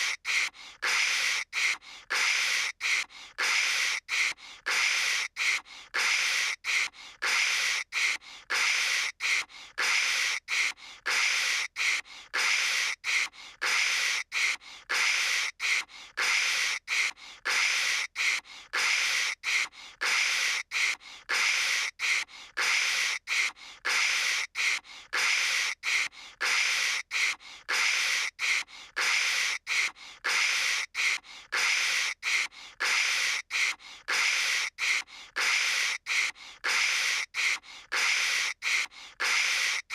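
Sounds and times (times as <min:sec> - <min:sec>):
girl making static hisses: 0:00.0 - 0:39.9.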